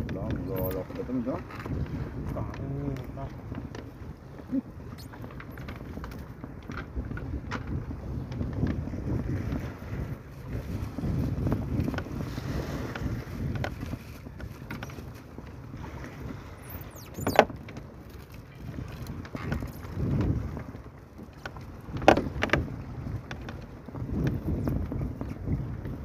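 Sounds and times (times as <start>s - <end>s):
low boat rumble: 0.0s - 26.0s
wind on microphone: 0.0s - 26.0s.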